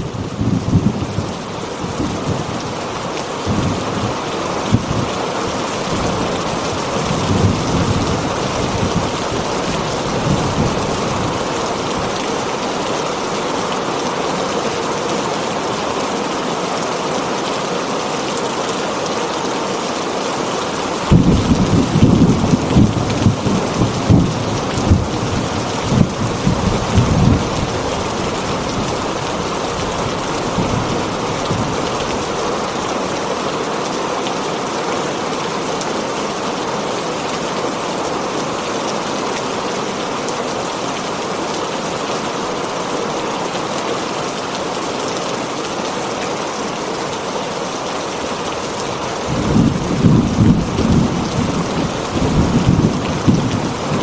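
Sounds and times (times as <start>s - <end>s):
rain drumming on a tin roof: 0.0s - 54.0s.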